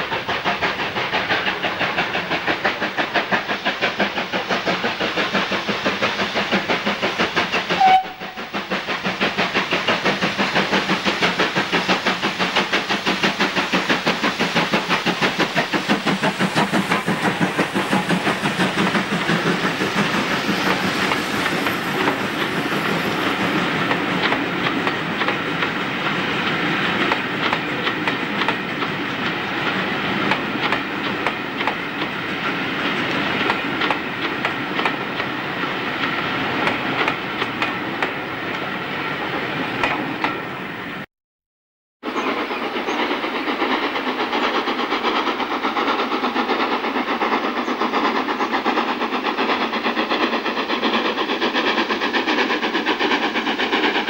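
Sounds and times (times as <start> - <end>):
steam locomotive exhaust beats: 0.0 - 41.0, 42.0 - 54.0.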